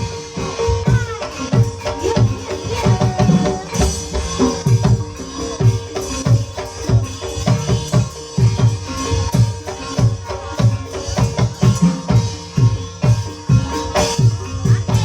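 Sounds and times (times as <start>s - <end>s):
hand drums beating: 0.0s - 15.0s
ringing gamelan tones: 0.0s - 15.0s.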